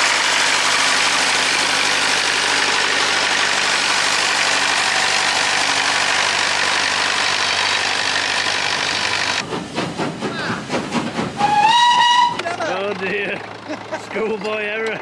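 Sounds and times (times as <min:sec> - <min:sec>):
tractor engine running: 0:00.0 - 0:10.2, 0:12.4 - 0:15.0.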